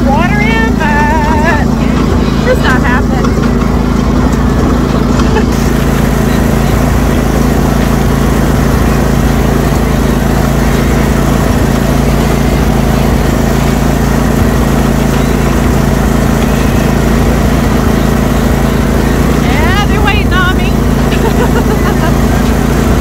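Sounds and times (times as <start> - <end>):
riding lawnmower engine running: 0.0 - 23.0.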